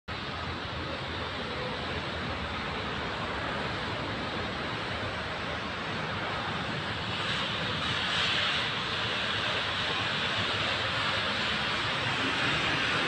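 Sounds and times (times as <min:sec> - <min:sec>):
distant traffic: 0:00.1 - 0:13.0.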